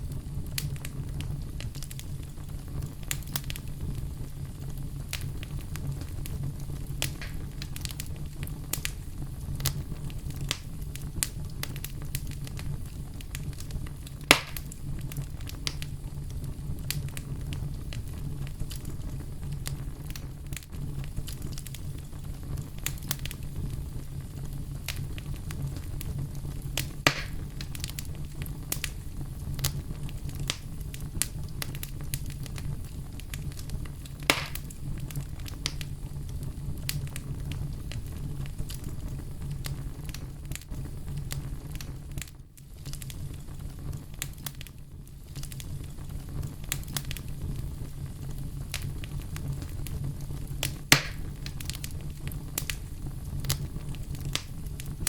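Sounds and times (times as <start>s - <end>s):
campfire flame rumble: 0.0s - 55.0s
fire crackling and popping: 0.0s - 55.0s.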